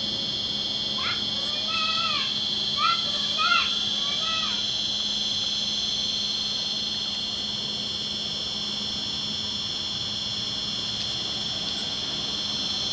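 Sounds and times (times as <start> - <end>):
high-pitched electric drive whining: 0.0 - 12.9.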